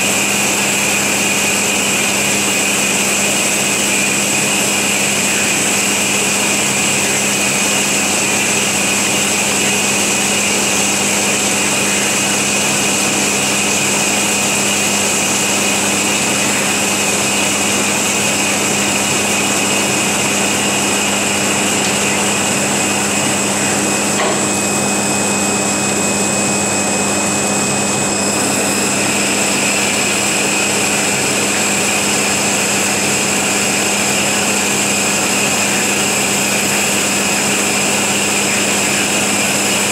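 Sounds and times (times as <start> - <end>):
band saw cutting metal: 0.0 - 39.9.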